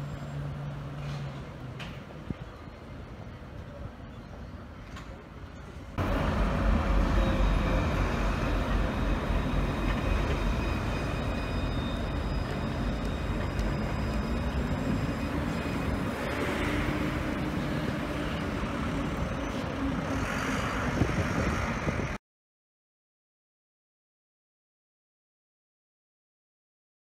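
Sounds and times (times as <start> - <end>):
tram rumbling: 0.0 - 22.2.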